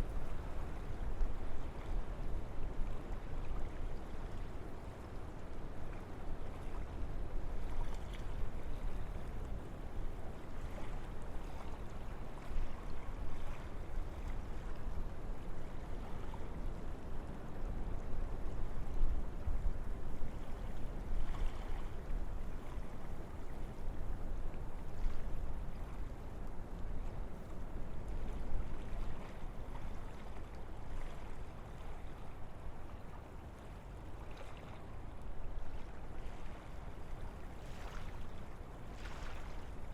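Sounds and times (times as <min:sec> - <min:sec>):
wind through trees: 0:00.0 - 0:39.9.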